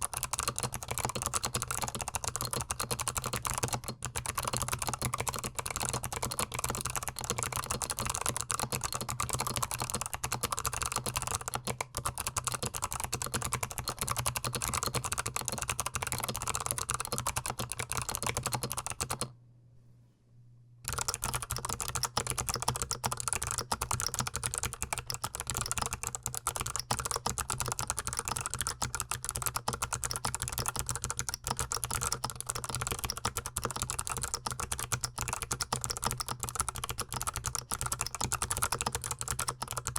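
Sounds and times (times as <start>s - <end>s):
typing on mechanical keyboard: 0.0s - 19.3s, 20.9s - 39.9s.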